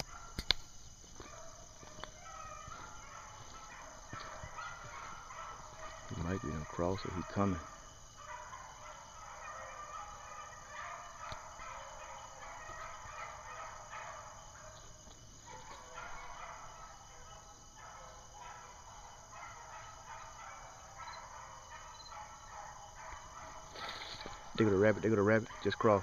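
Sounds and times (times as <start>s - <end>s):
hounds baying: 0.0s - 26.0s.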